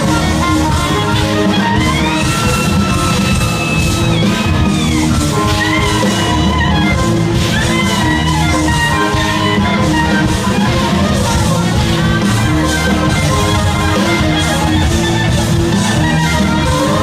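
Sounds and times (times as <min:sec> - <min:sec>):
bass guitar: 0:00.0 - 0:17.0
drums: 0:00.0 - 0:17.0
lead guitar bending notes: 0:00.0 - 0:17.0.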